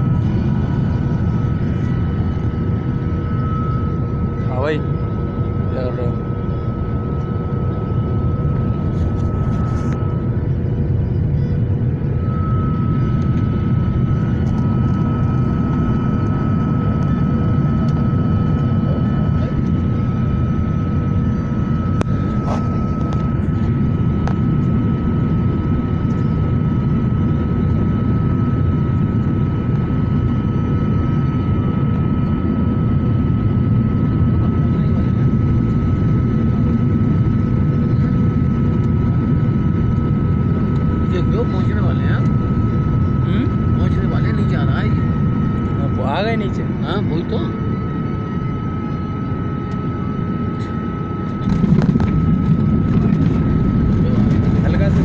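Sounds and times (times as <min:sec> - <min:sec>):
airliner engine rumble: 0:00.0 - 0:55.0
high engine whine: 0:00.0 - 0:55.0.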